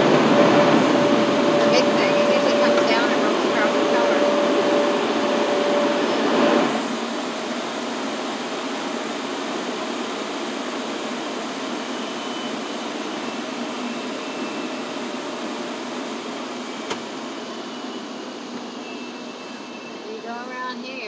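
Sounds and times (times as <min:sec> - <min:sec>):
air dryer blowers rushing: 0:00.0 - 0:19.0.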